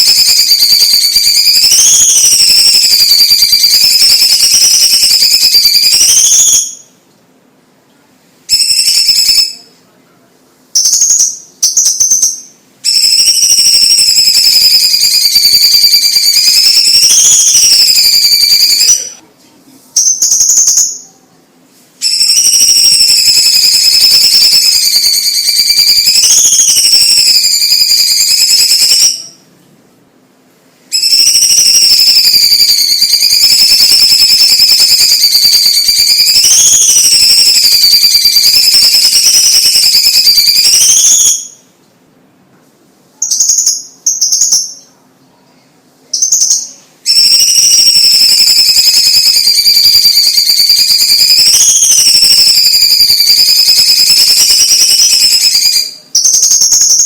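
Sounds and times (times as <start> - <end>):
bird singing whistled phrases: 0.0 - 7.0, 8.5 - 9.7, 10.8 - 19.2, 20.0 - 21.2, 22.0 - 29.4, 30.9 - 41.7, 43.2 - 45.0, 46.1 - 57.0.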